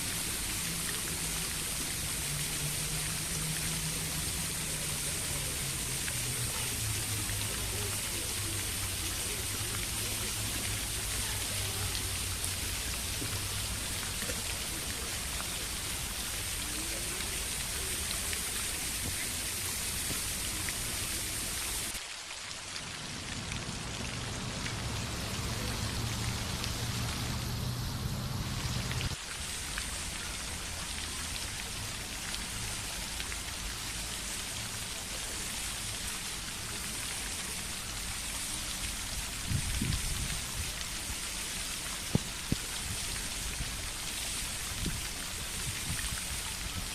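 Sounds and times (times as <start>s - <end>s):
water splashing and pattering: 0.0s - 46.9s.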